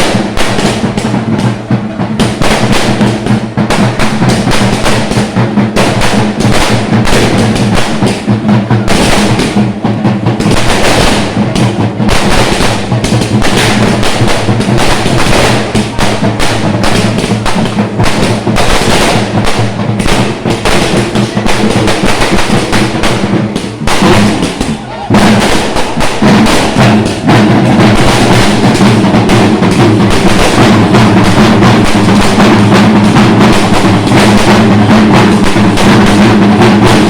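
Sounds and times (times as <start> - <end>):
fast drumming ensemble: 0.0 - 37.0.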